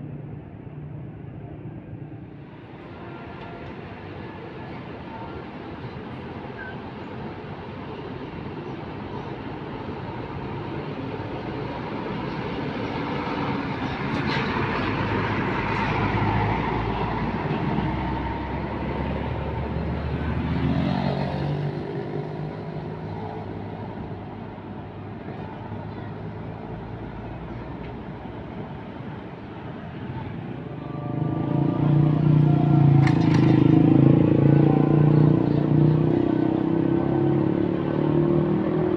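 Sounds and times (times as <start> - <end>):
bus engine passing by: 0.0 - 38.9.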